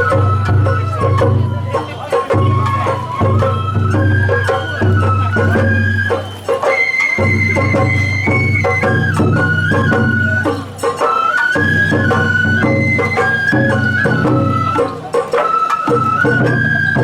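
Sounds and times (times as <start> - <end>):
bamboo flute melody: 0.0 - 17.0
festival music ensemble: 0.0 - 17.0.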